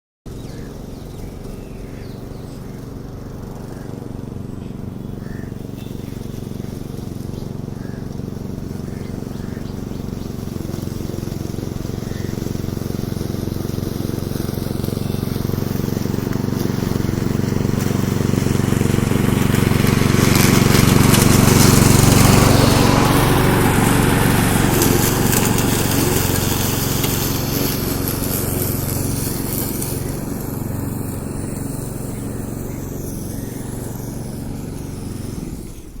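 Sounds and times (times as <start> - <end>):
lawnmower engine running: 0.3 - 36.0.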